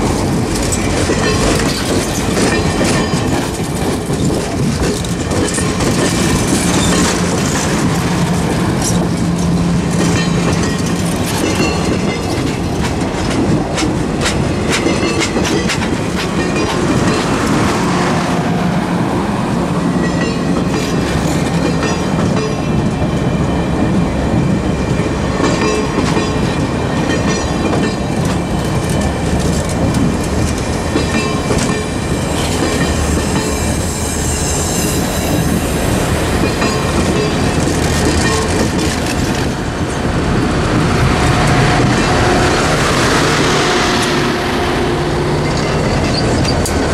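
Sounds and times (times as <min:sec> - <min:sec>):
train wheels clicking over rail joints: 0:00.0 - 0:17.9, 0:19.7 - 0:44.2, 0:45.2 - 0:46.9
train rumble: 0:00.0 - 0:46.9.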